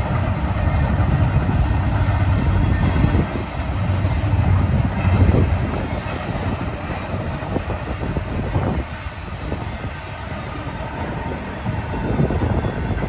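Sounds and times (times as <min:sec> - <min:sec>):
rail clicks and knocks: 0:00.0 - 0:13.0
train wheels rumbling on rails: 0:00.0 - 0:13.0.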